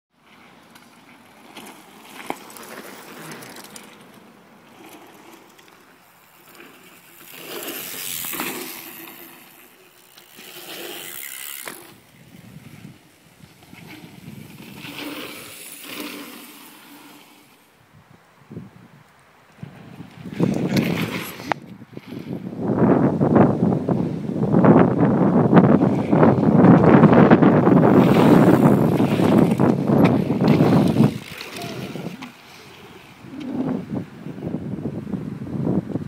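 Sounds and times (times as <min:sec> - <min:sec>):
mountain bike tyres on dirt trail: 0:00.1 - 0:36.0.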